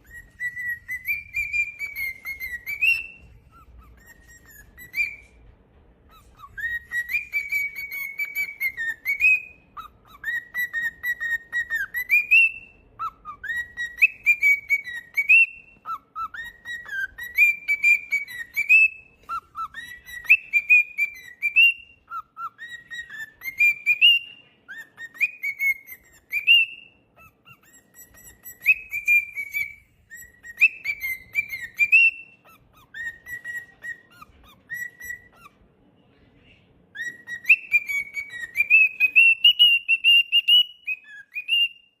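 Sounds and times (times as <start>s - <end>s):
cockatiel whistling: 0.0s - 35.6s, 36.9s - 42.0s.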